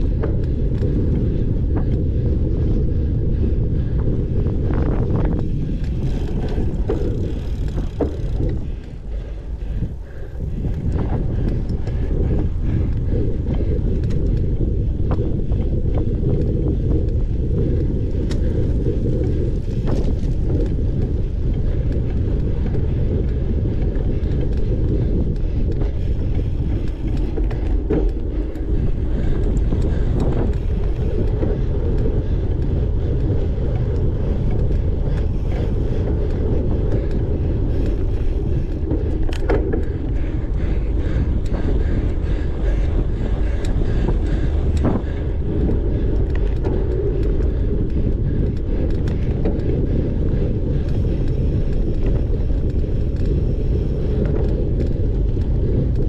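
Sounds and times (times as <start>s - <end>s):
wind buffeting microphone: 0.0s - 56.0s
small clicks and rattles: 3.8s - 56.0s.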